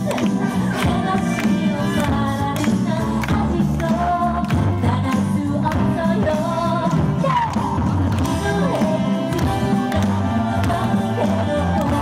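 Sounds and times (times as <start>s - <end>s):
pop backing track with beat: 0.0s - 12.0s
woman singing into a microphone: 0.0s - 12.0s.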